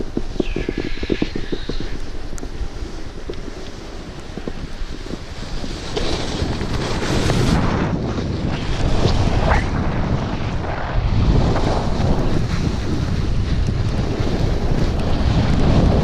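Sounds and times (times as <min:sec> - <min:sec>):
snowboard scraping over snow: 0:00.0 - 0:16.0
wind buffeting microphone: 0:00.0 - 0:16.0.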